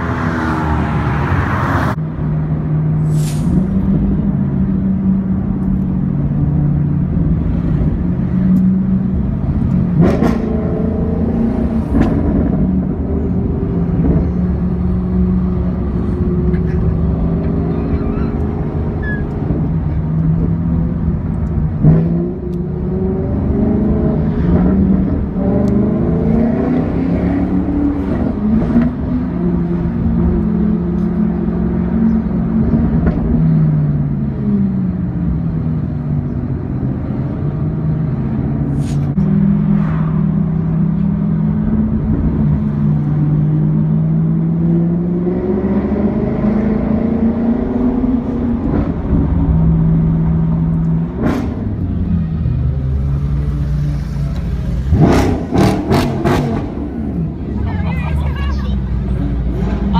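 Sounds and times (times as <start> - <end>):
road rumble: 0.0 - 59.9
car engine accelerating: 3.6 - 59.9.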